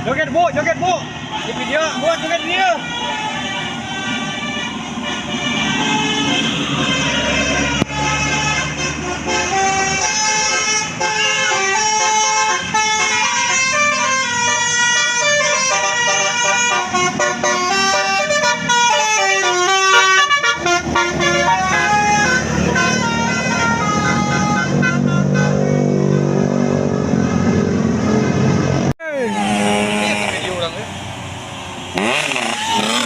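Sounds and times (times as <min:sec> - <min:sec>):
musical bus horn melody: 0:01.0 - 0:27.1, 0:29.2 - 0:30.8, 0:32.0 - 0:33.0.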